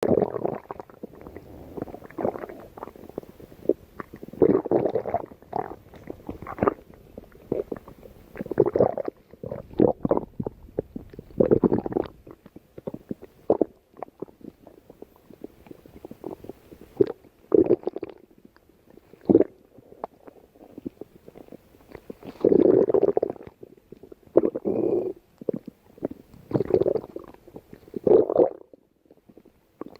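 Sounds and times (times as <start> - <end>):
stomach growling: 0.0 - 29.9.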